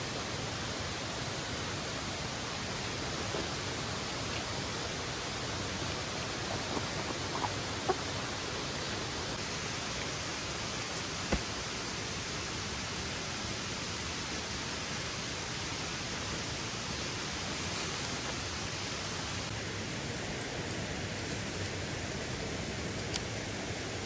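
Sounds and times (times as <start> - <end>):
rushing falling water: 0.0 - 20.0.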